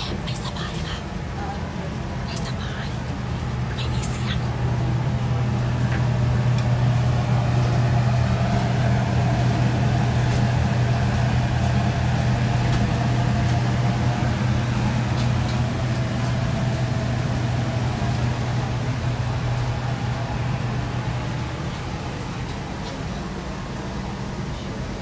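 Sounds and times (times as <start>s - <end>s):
airliner cabin hum: 0.0s - 25.0s.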